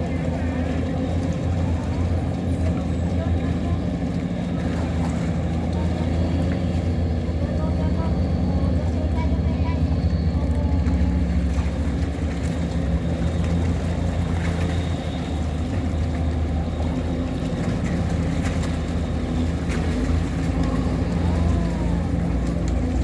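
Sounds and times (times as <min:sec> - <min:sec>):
tugboat engine drone: 0:00.0 - 0:23.0.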